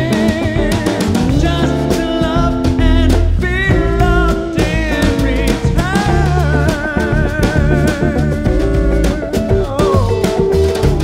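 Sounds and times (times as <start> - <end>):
drum kit: 0.0 - 11.0
man singing with vibrato: 0.0 - 11.0
upright double bass: 0.0 - 11.0.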